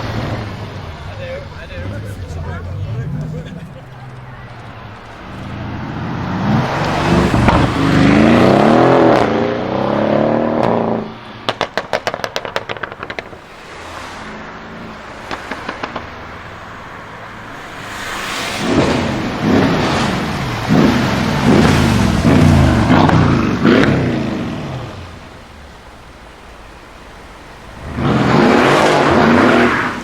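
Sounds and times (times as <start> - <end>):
exhaust crackles and pops: 0.0 - 9.4, 10.6 - 30.0
car engine accelerating: 0.0 - 26.1, 27.4 - 30.0.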